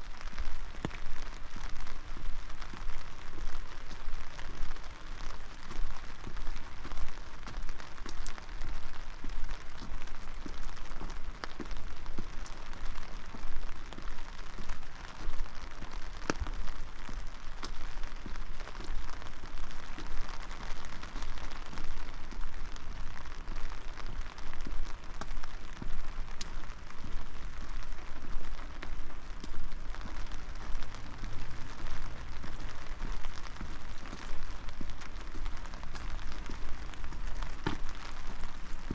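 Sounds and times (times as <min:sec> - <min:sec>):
rain patter: 0:00.0 - 0:38.9
sharp raindrop hits: 0:00.0 - 0:38.9.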